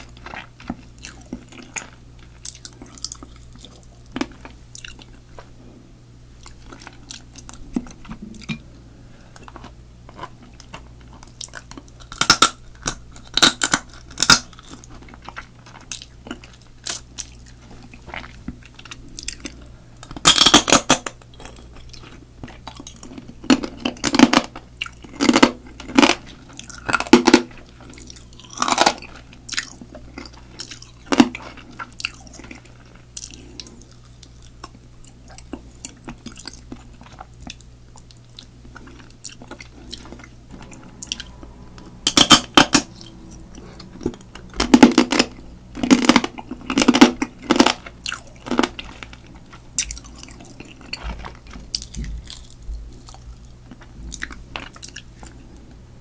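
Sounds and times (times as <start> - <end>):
chewing and crunching shell: 0.0 - 5.6, 6.3 - 55.8.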